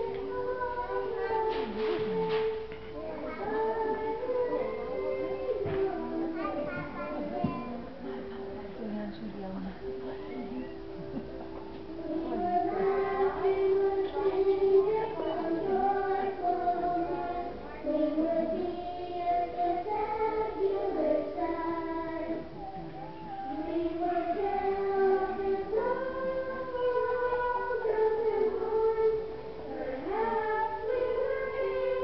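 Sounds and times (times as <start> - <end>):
children singing: 0.0 - 8.6, 10.1 - 32.0
background music: 0.0 - 32.0.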